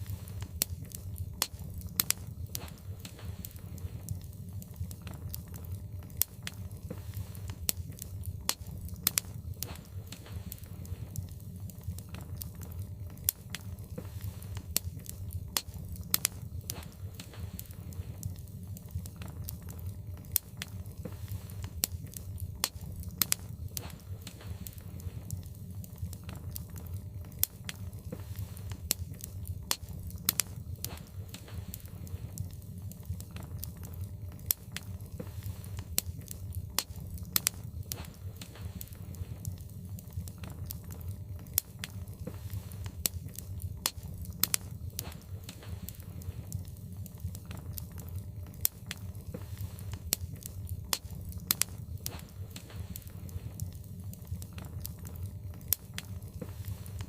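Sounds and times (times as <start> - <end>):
fire crackling and popping: 0.0 - 57.0
low fire noise: 0.0 - 57.0.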